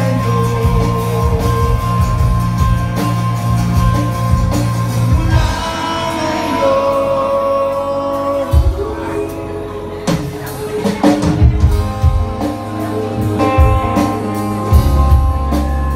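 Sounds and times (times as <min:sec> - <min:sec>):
live band playing: 0:00.0 - 0:15.9.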